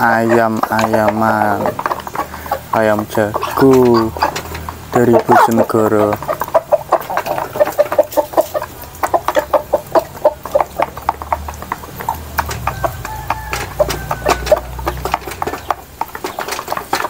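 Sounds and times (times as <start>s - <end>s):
beaks pecking wooden trough: 0.0s - 17.0s
roosters clucking: 0.0s - 17.0s.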